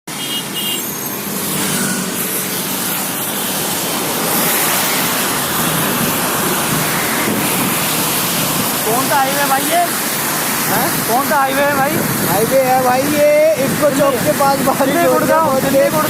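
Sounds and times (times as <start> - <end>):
cars driving fast on wet road: 0.1 - 16.0
heavy rain: 0.1 - 16.0.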